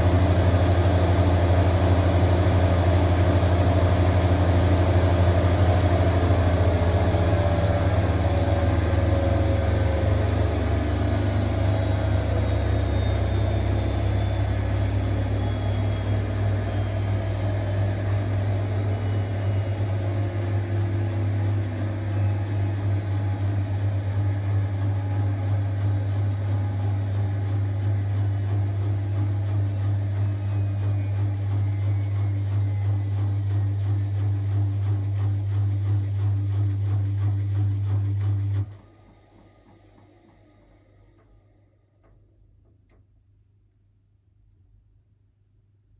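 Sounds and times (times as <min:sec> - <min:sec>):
low hum: 0:00.0 - 0:38.8
washing machine motor whine: 0:00.0 - 0:41.7.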